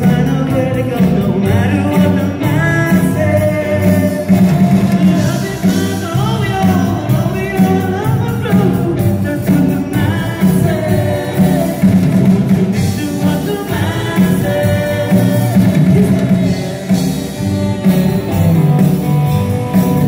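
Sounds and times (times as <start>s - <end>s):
man singing into a microphone: 0.0s - 17.1s
electric guitar: 0.0s - 20.0s
pulsing bass line: 0.0s - 20.0s.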